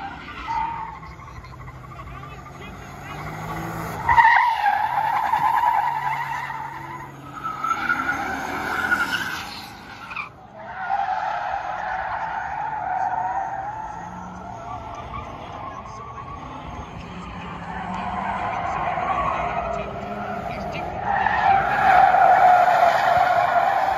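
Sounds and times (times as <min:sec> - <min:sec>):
car engine revving: 0:00.0 - 0:23.9
tyres squealing on asphalt: 0:00.0 - 0:23.9.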